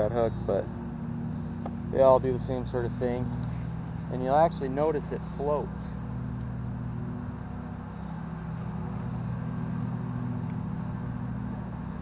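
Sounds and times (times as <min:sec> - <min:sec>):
road traffic drone: 0:00.0 - 0:12.0.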